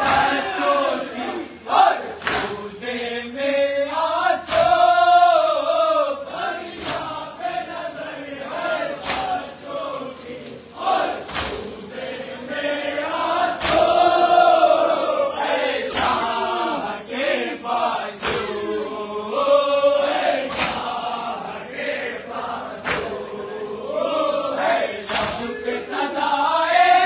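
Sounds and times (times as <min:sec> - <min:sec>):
men chanting together: 0:00.0 - 0:27.0.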